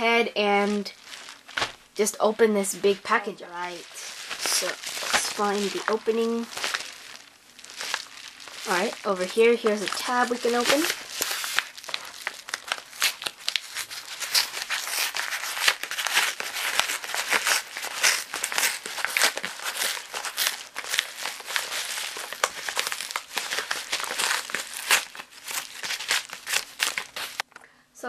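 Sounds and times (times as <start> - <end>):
paper mailer tearing and crinkling: 3.5 - 27.4.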